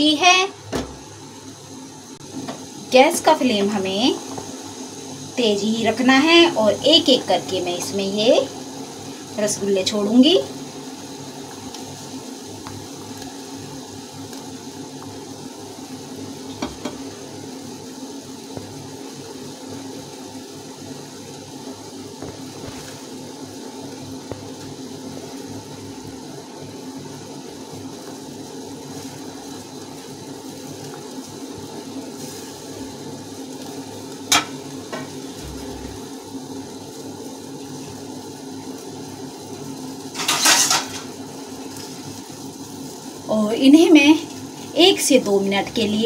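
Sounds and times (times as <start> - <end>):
syrup boiling in a pot: 0.0 - 46.0.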